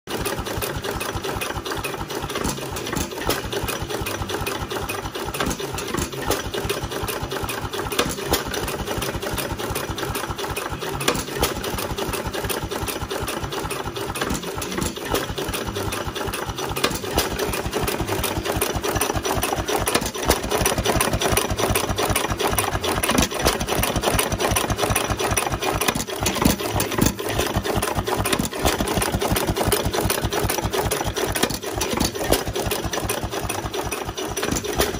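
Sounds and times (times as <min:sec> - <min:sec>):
engine knock: 0:00.1 - 0:34.9
stationary engine clatter: 0:00.1 - 0:34.9.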